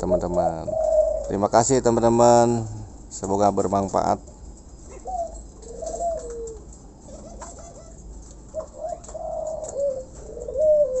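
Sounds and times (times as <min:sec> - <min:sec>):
dove cooing: 0:00.0 - 0:03.0, 0:04.2 - 0:11.0.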